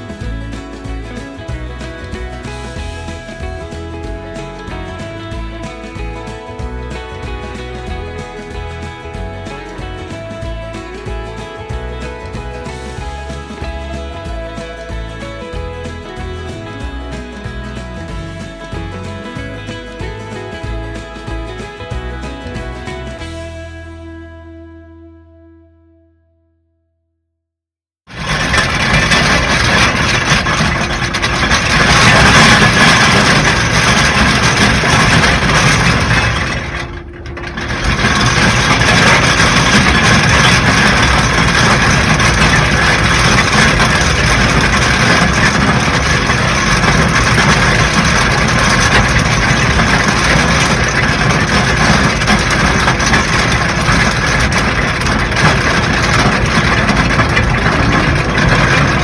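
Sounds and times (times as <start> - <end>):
boat engine: 0.0 - 25.4, 28.1 - 59.0.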